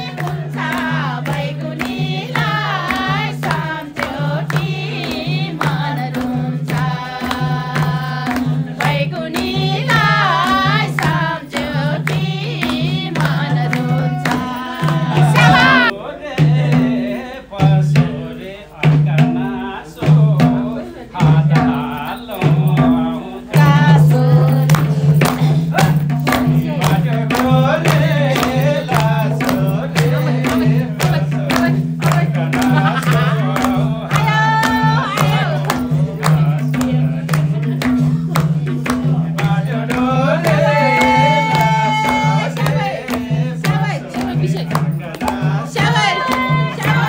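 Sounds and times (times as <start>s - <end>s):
hand drum beat: 0.0s - 47.0s
voices singing folk song: 0.0s - 47.0s.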